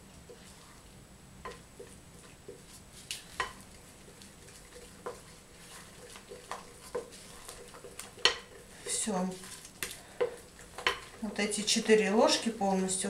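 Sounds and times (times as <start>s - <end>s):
wooden spoon stirring batter: 0.0s - 13.0s.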